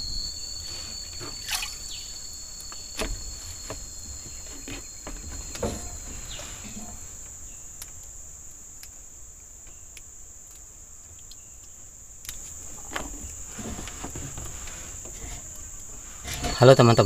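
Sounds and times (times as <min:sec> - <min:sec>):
chorus of jungle insects: 0:00.0 - 0:17.0.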